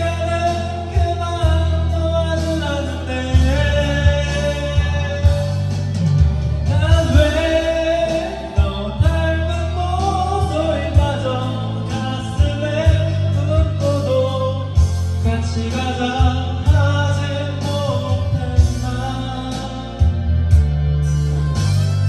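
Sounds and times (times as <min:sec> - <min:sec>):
band with bass and drums: 0:00.0 - 0:22.0
person singing: 0:00.0 - 0:22.0.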